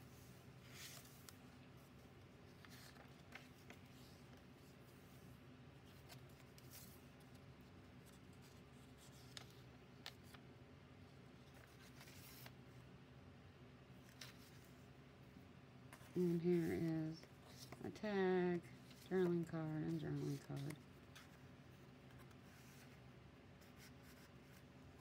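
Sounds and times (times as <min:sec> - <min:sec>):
low room hum: 0:00.0 - 0:25.0
paper pages rustling: 0:00.6 - 0:04.9, 0:05.8 - 0:10.4, 0:11.4 - 0:12.6, 0:14.0 - 0:14.8, 0:15.9 - 0:25.0.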